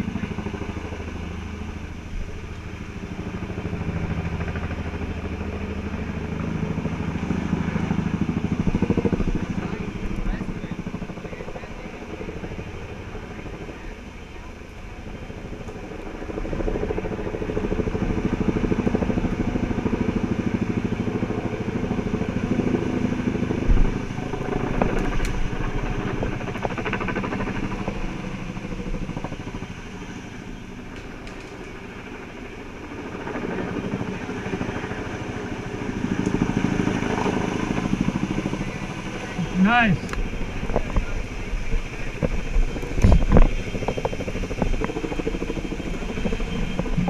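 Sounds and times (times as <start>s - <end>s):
helicopter rotor chop: 0.0s - 47.0s.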